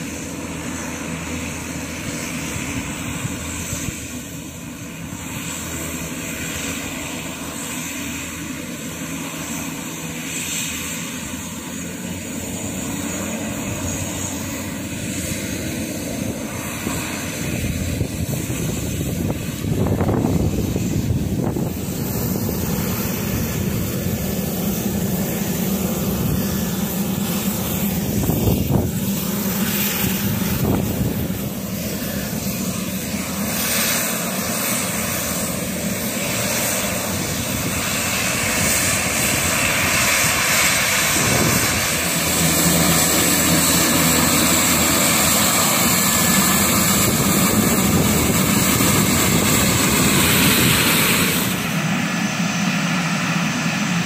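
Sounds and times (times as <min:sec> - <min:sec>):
turboprop engines running: 0:00.0 - 0:54.0.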